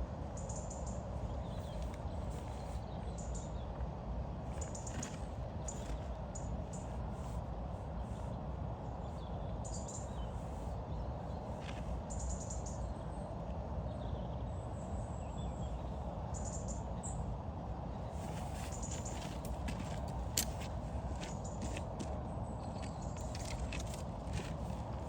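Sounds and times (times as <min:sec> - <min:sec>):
small birds chirping: 0:00.3 - 0:03.8, 0:04.5 - 0:25.0.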